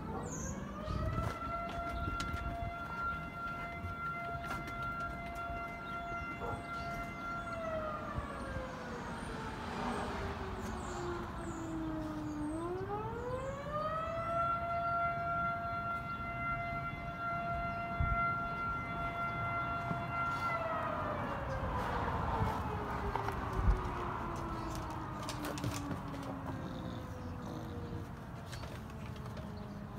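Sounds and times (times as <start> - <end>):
warning siren: 0.0 - 29.9.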